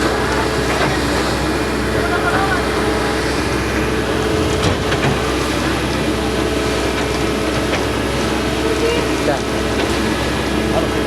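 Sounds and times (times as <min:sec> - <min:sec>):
heavy diesel engine droning: 0:00.0 - 0:11.0.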